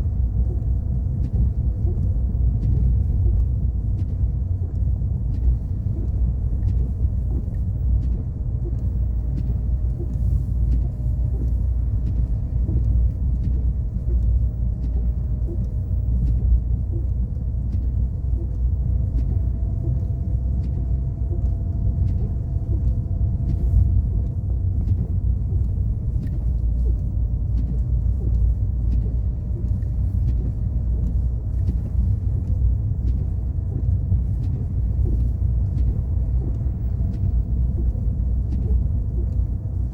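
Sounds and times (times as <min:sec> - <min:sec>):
car tyres and engine rumble: 0:00.0 - 0:39.9
faint steady hum: 0:00.0 - 0:39.9
light ticks: 0:00.1 - 0:39.9.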